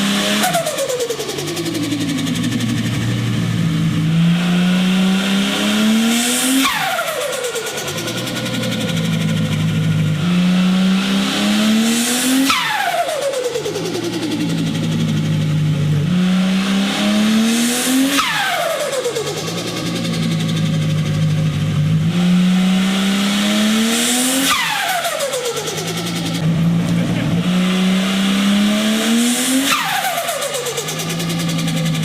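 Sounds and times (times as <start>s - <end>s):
turbocharged car engine revving: 0.0s - 32.0s.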